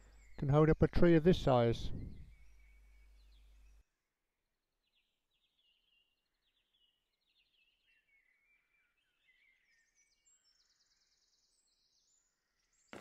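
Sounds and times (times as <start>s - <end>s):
songbirds singing trills: 0.0s - 3.9s, 4.8s - 13.0s.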